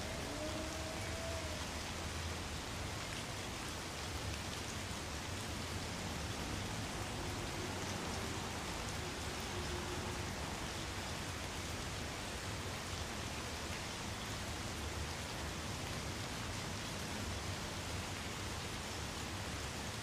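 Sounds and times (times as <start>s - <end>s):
light rain falling on trees: 0.0s - 20.0s.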